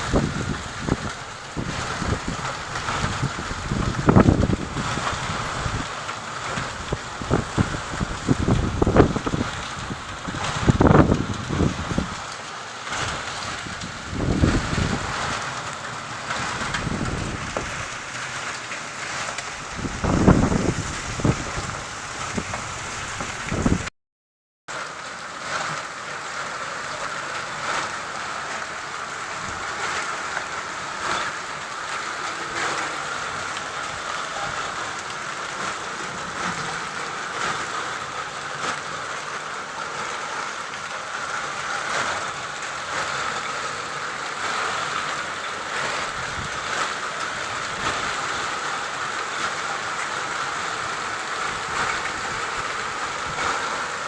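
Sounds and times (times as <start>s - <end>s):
hailstones hitting surfaces: 0.0s - 23.9s, 24.8s - 54.0s
heavy rain hissing: 0.0s - 23.9s, 24.7s - 54.0s.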